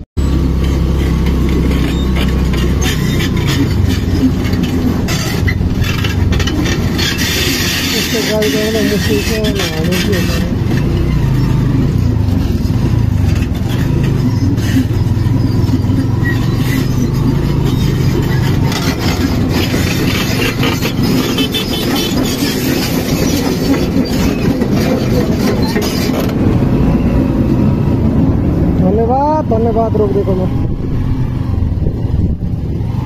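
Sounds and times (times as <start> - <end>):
clanking steel tracks: 0.2 - 27.5
excavator diesel engine: 0.2 - 33.0
motorcycle engine running: 0.2 - 33.0.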